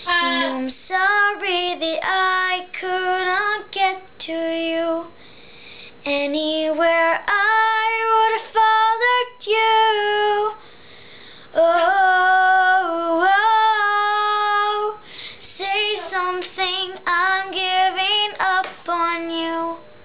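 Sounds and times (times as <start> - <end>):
girl singing unaccompanied: 0.0 - 5.2, 6.0 - 10.6, 11.5 - 19.9.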